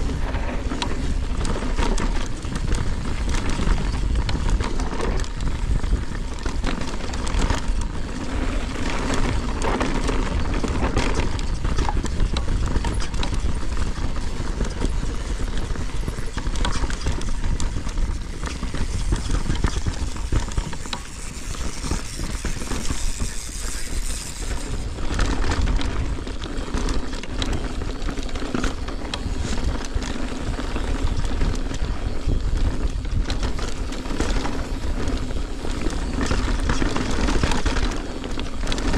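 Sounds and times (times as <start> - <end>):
bike rattling: 0.0 - 38.9
bike tyres on dirt and stones: 0.0 - 38.9
wind rumbling on microphone: 0.0 - 38.9.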